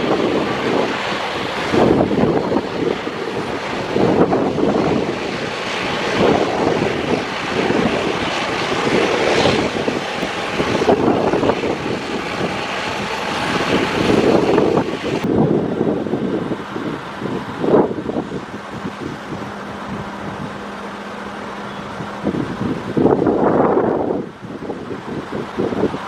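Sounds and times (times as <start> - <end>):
jet airliner passing low: 0.0 - 26.0
wind buffeting microphone: 0.0 - 26.0.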